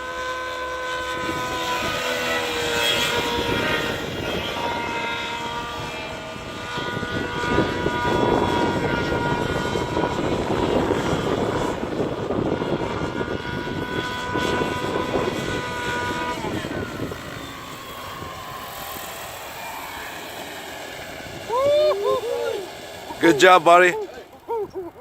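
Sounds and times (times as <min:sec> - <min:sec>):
rc helicopter engine whine: 0:00.0 - 0:25.0
rotor blade rush: 0:00.0 - 0:25.0.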